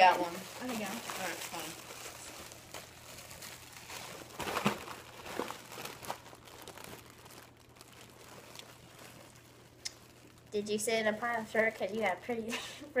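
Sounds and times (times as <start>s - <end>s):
foil balloon crinkling: 0.0s - 12.4s.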